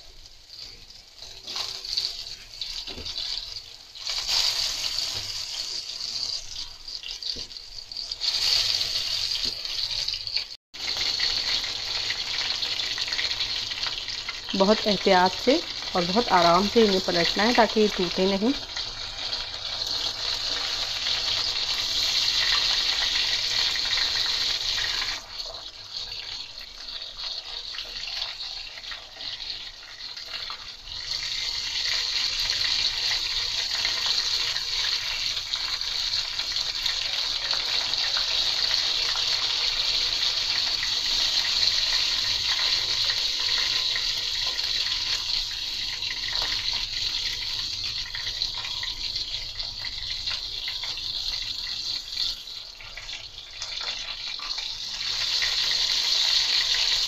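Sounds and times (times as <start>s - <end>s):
meat sizzling in oil: 0.0s - 57.0s.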